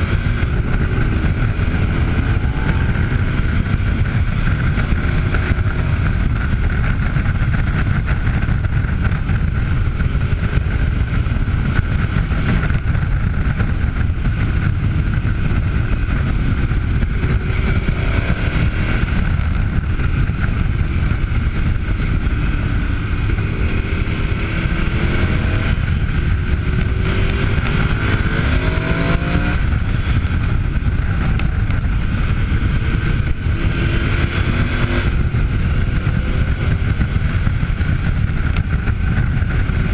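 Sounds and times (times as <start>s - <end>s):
motorcycle engine revving: 0.0s - 39.9s
wind rumble on microphone: 0.0s - 39.9s.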